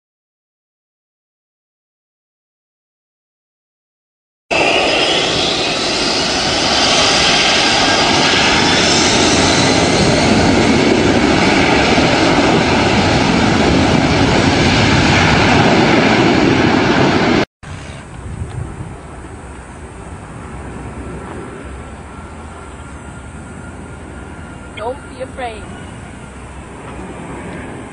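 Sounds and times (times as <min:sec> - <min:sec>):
jet engines roaring: 0:04.5 - 0:27.9.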